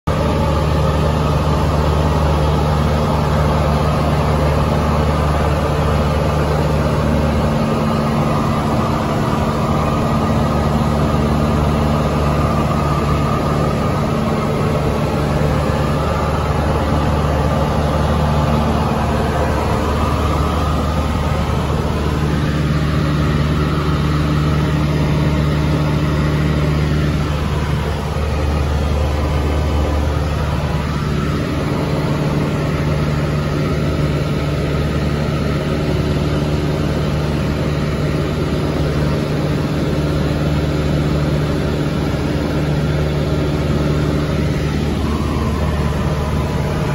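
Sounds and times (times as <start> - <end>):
light aircraft engine droning: 0.1 - 46.9.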